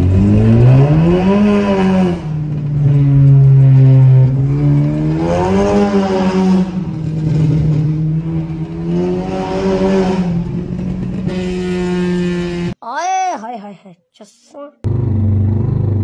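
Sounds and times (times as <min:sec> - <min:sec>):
car engine accelerating: 0:00.0 - 0:12.8, 0:14.8 - 0:16.0.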